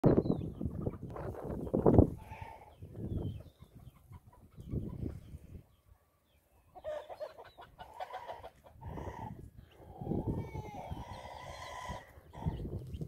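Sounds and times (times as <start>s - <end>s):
poultry clucking: 0.1s - 13.0s.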